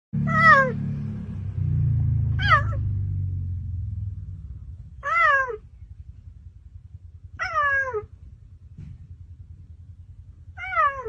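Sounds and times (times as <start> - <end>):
low steady rumble: 0.2 - 11.0.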